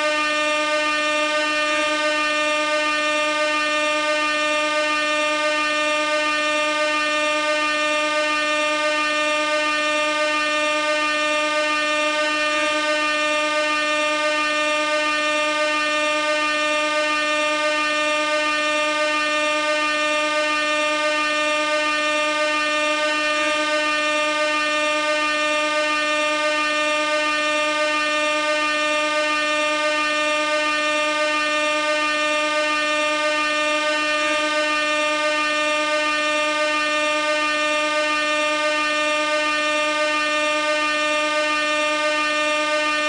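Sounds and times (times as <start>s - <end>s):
air horn blast: 0.0s - 43.0s.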